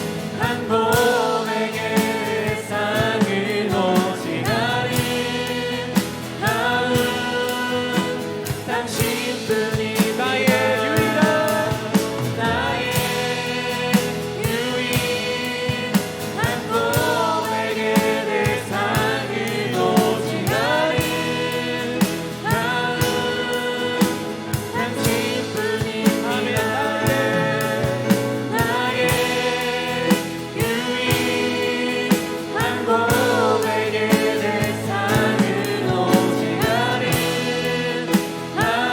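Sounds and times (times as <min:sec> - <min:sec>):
worship song with voices singing: 0:00.0 - 0:38.9.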